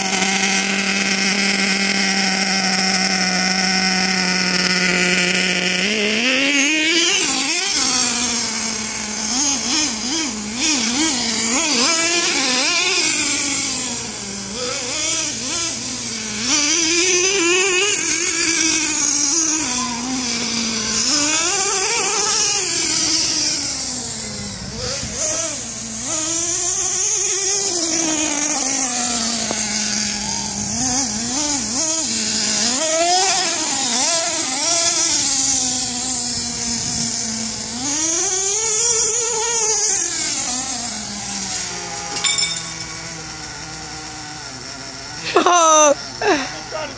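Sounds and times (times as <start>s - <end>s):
nitro engine revving: 0.0s - 46.9s.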